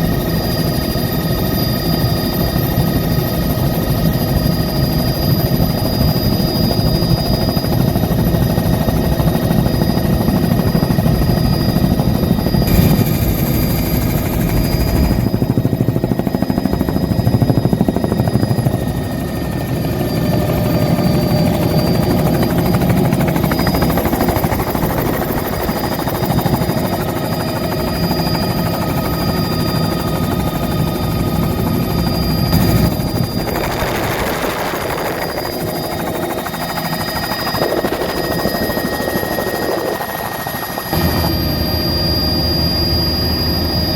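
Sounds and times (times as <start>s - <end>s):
helicopter rotor and engine drone: 0.0s - 43.9s
high-pitched turbine whine: 0.0s - 43.9s.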